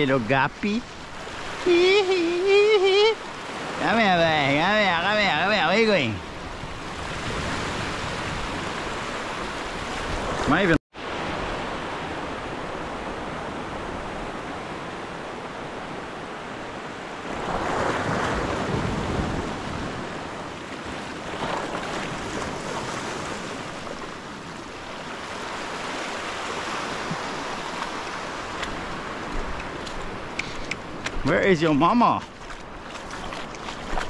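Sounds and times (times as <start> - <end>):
ocean waves: 0.0 - 34.0
wind: 0.0 - 34.0.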